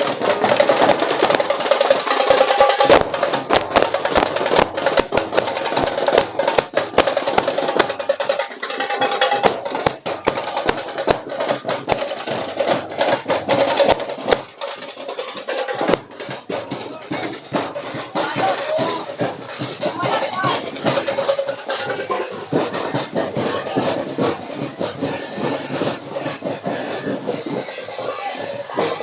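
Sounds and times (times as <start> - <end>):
percussion-driven dance music: 0.0 - 29.0.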